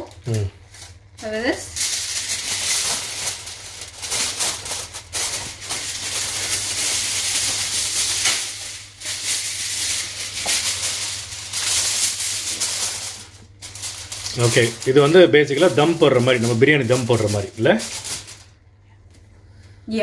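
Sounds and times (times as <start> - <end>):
aluminium foil crinkling: 0.0 - 19.2.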